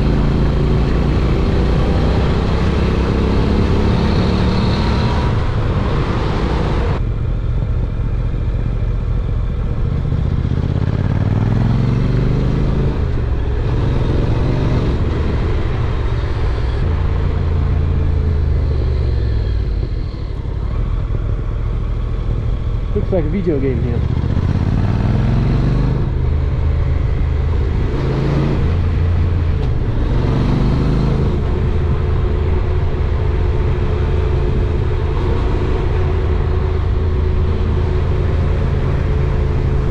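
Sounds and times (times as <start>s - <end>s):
motorcycle engine running: 6.8s - 39.9s.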